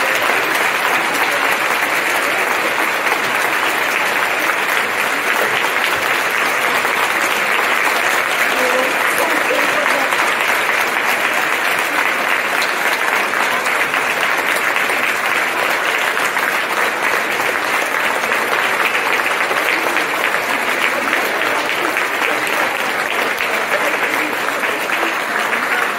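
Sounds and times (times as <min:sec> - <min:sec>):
audience applauding: 0:00.0 - 0:25.9
people cheering: 0:00.0 - 0:25.9.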